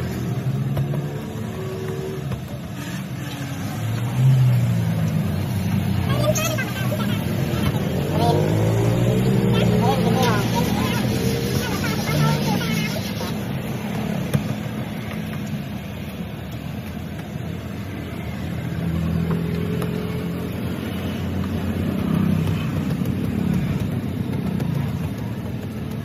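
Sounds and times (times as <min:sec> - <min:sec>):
passing vehicles rumbling: 0:00.0 - 0:26.0.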